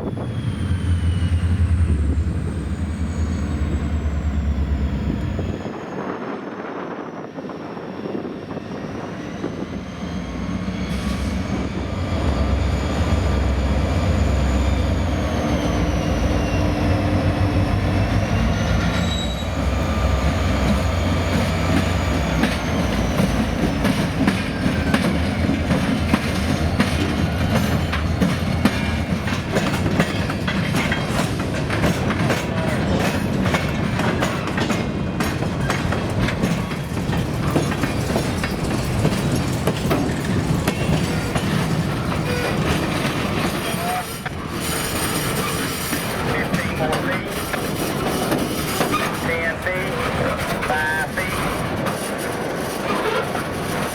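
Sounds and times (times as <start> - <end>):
diesel locomotive rumble: 0.0 - 53.9
train wheels clickety-clack: 9.2 - 53.9.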